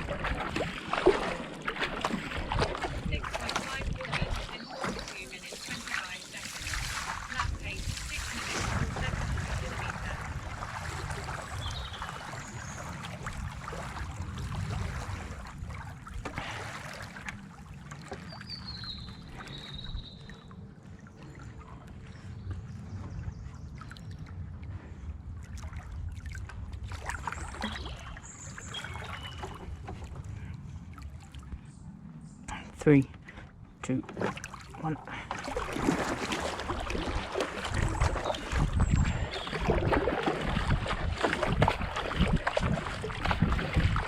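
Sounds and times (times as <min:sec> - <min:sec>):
steady low rumble: 0:00.0 - 0:05.4, 0:06.7 - 0:16.6, 0:20.5 - 0:33.9, 0:34.8 - 0:44.0
water trickling and lapping: 0:00.0 - 0:44.0.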